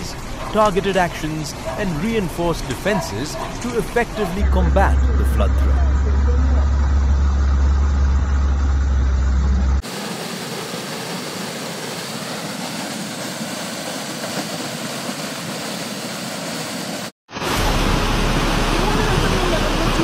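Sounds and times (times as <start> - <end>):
floodwater rushing: 0.0 - 8.9, 9.8 - 20.0
boat motor humming: 0.0 - 14.4, 17.6 - 20.0.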